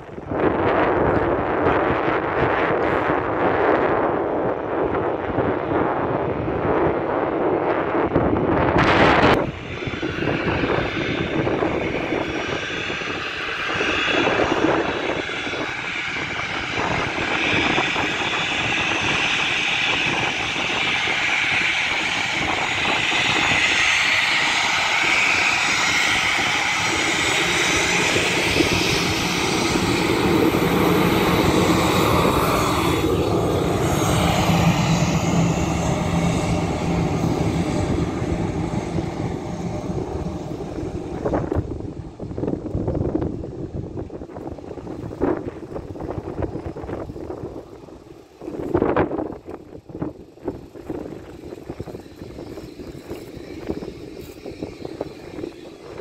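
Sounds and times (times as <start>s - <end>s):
heavy rumble: 0.0s - 56.0s
jet engines rumbling and whining: 0.0s - 56.0s.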